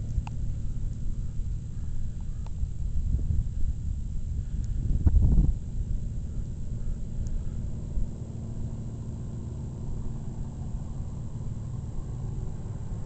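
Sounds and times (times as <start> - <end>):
distant propeller engine droning: 0.0 - 13.0
wind rumble on microphone: 0.0 - 13.0.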